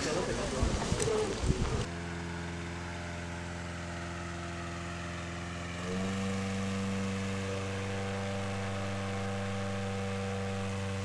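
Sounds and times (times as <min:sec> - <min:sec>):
steady low drone: 0:01.3 - 0:11.0.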